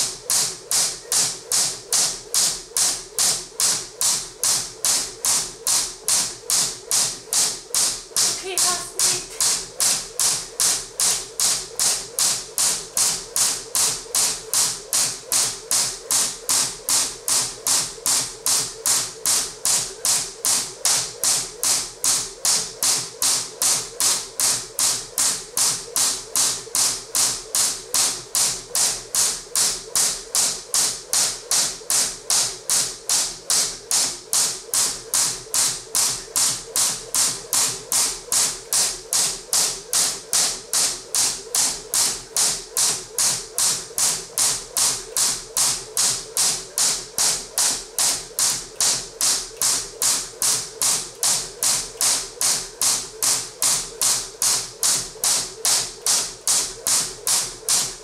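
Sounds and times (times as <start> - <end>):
jump rope slapping the floor: 0.0 - 58.0.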